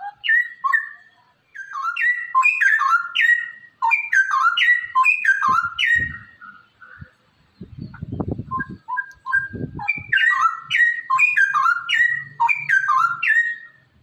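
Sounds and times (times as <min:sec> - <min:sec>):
bird warbling song: 0:00.0 - 0:14.0.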